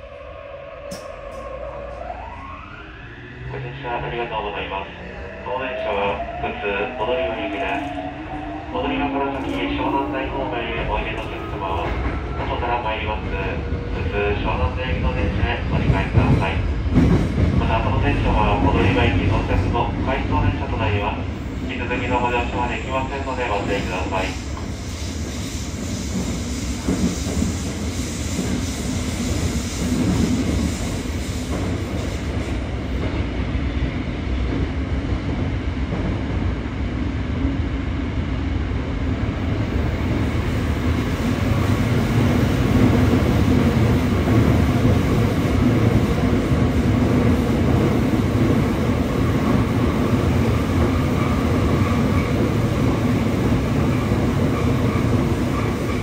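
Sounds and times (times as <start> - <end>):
wheels rumbling on rail: 3.2 - 56.0.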